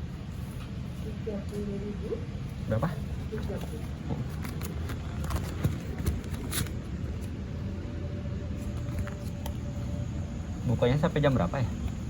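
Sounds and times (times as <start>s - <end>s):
faint steady hum: 0.0s - 12.0s
steady low rumble: 0.0s - 12.0s.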